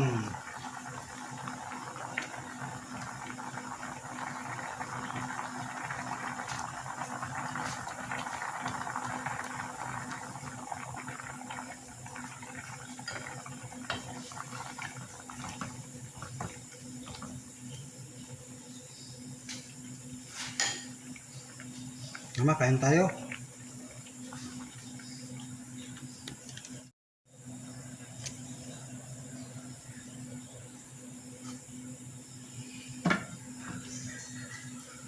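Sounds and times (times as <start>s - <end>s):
stew bubbling in a pot: 0.0s - 35.0s.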